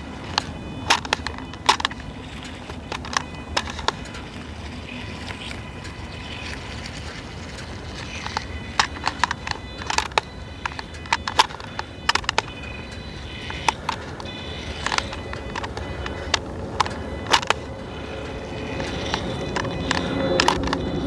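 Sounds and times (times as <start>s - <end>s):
sharp clicks and taps: 0.0s - 21.0s
small electric motors whining: 0.0s - 21.0s.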